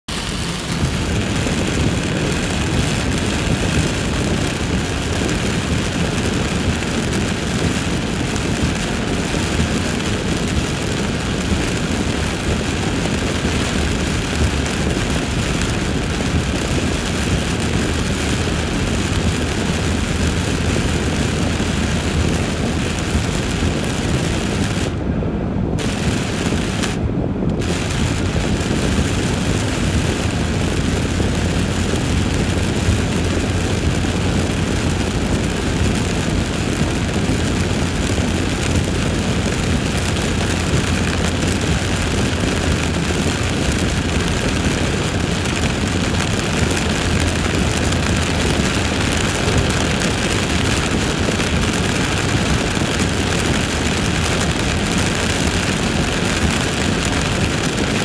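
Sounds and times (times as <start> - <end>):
tyres hissing on wet road: 0.1 - 25.0, 25.8 - 58.0
heavy rain drumming on car roof: 0.1 - 58.0.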